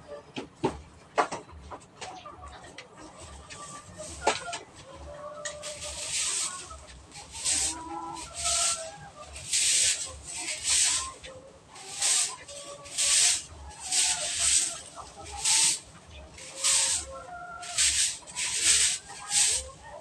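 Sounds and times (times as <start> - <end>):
broom sweeping concrete floor: 3.3 - 20.0.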